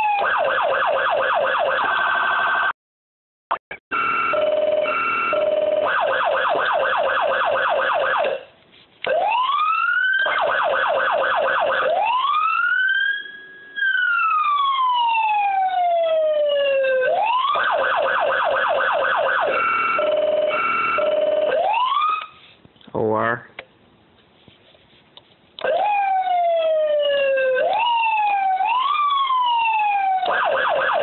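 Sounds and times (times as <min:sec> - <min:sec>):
electronic siren: 0:00.0 - 0:02.8, 0:03.9 - 0:08.5, 0:09.1 - 0:22.4, 0:25.6 - 0:31.0.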